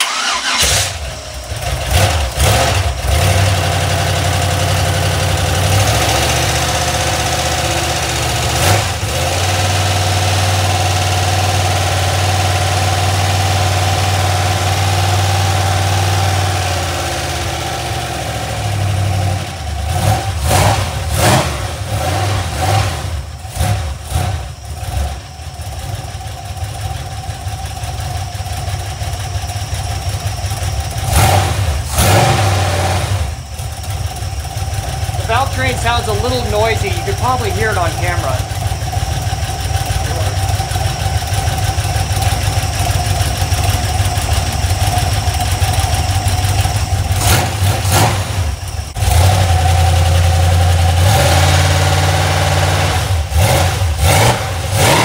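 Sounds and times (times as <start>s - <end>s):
engine running and sputtering: 0.0s - 55.0s.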